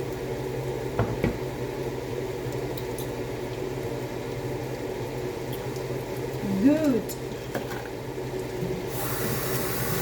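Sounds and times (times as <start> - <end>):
food frying in a pan: 0.0 - 10.0
steady mechanical hum: 0.0 - 10.0.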